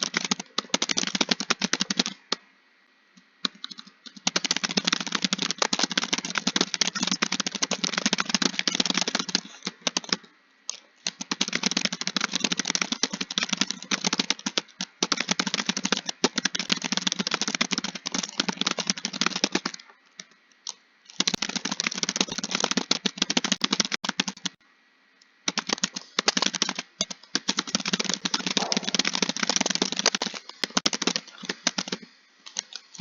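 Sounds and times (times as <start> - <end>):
fast typing on a keyboard: 0.0 - 2.4, 3.4 - 24.6, 25.5 - 33.0.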